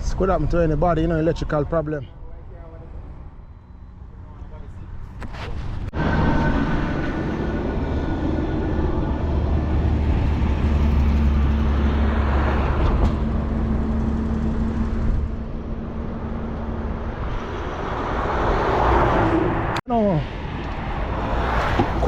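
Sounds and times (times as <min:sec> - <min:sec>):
vehicle engine rumble: 0:02.2 - 0:22.0.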